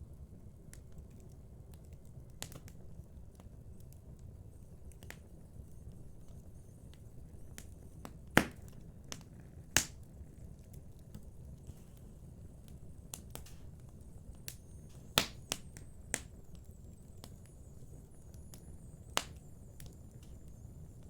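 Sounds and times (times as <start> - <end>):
wood fire crackling in fireplace: 0.0 - 21.0.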